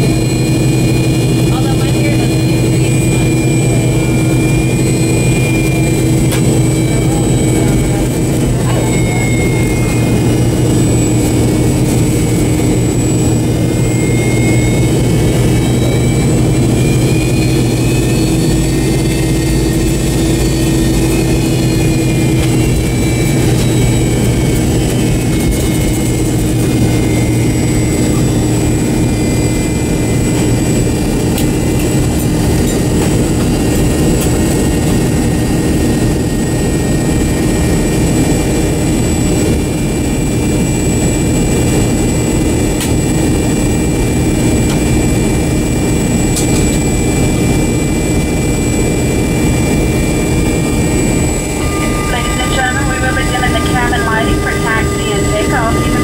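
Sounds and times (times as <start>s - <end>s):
high whine: 0.0s - 56.0s
jet engine roar: 0.0s - 56.0s
low hum: 0.0s - 56.0s.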